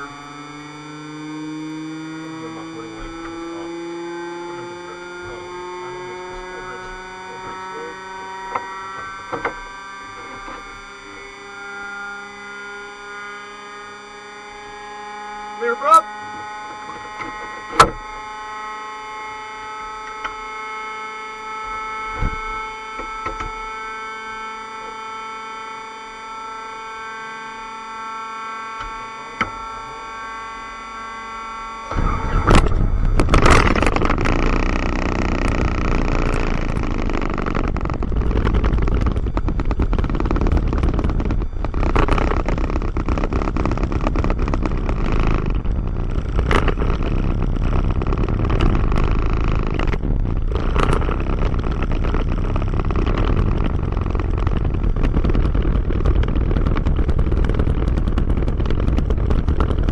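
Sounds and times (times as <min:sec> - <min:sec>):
aircraft engine starting and idling: 0:00.0 - 0:59.9.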